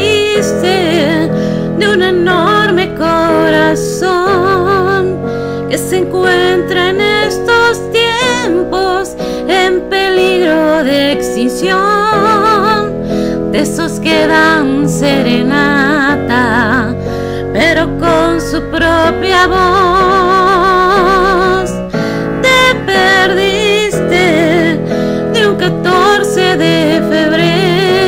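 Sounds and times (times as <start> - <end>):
karaoke backing track with piano: 0.0 - 28.0
woman singing a slow ballad: 0.0 - 28.0.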